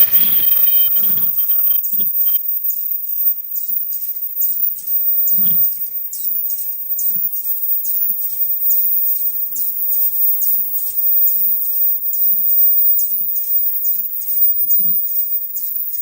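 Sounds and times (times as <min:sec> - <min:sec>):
machine hissing: 0:00.0 - 0:16.0.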